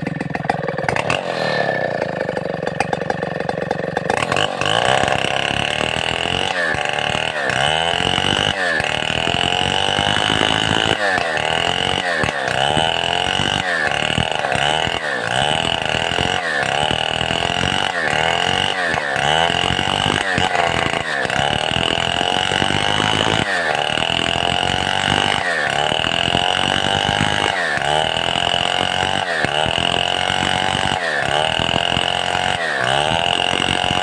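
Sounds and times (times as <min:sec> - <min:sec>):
chainsaw running hard: 0:00.0 - 0:34.0.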